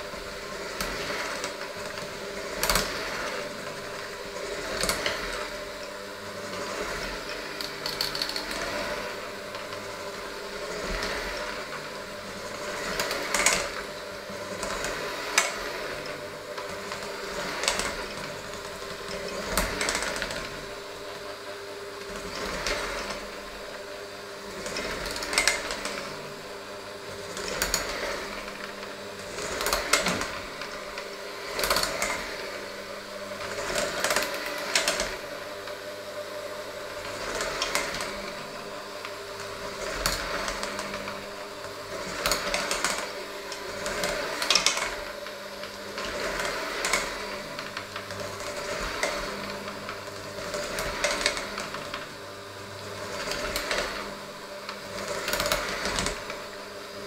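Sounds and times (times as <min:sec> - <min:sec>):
electric mixer running: 0:00.0 - 0:57.0.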